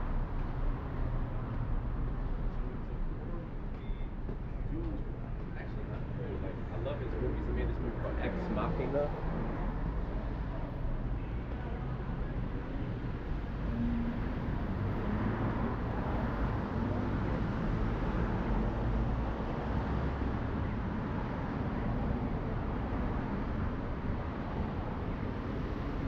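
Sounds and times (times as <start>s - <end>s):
passing cars: 5.0s - 26.0s.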